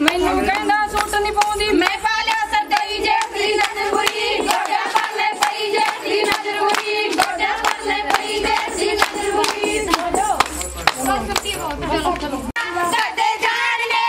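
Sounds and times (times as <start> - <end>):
rhythmic hand-clapping: 0.0 - 14.0
women singing together: 0.0 - 14.0.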